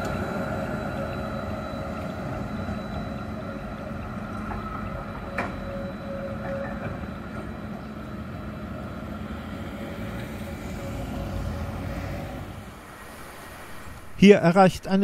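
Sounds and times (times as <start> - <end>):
tram rumbling: 0.0 - 13.8.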